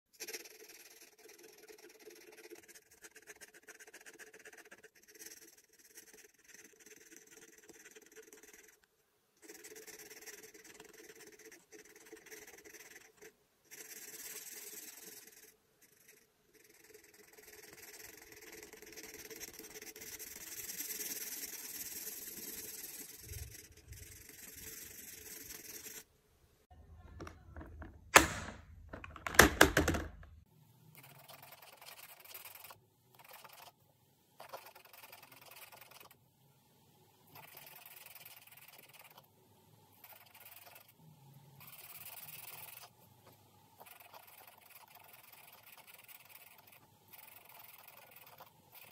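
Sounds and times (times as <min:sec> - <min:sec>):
marker rubbing across paper: 0:00.2 - 0:26.1, 0:31.0 - 0:33.8, 0:34.4 - 0:36.2, 0:37.4 - 0:39.2, 0:40.0 - 0:41.0, 0:41.6 - 0:43.0, 0:43.8 - 0:48.9.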